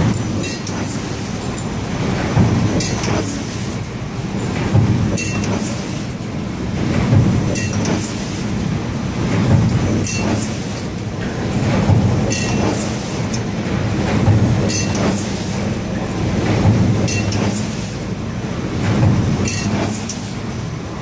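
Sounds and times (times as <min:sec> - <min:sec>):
press machine clatter and rumble: 0:00.0 - 0:21.0.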